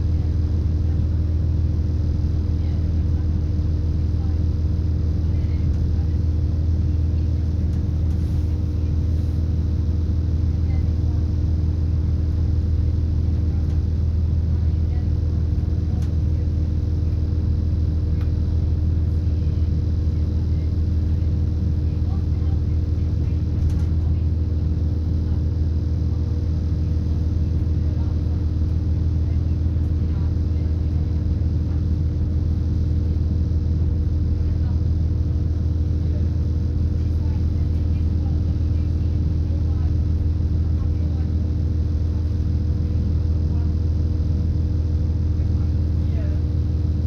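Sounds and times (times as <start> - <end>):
steady low hums: 0.0 - 47.0
train engine drone: 0.0 - 47.0.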